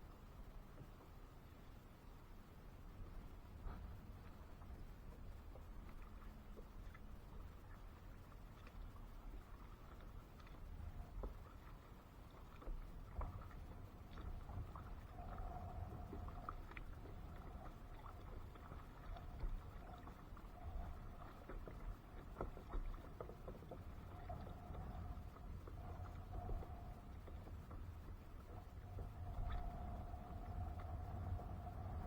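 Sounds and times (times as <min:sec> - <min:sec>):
faint hum: 0:00.0 - 0:32.0
low rumble of water: 0:00.0 - 0:32.0
wind: 0:00.0 - 0:32.0.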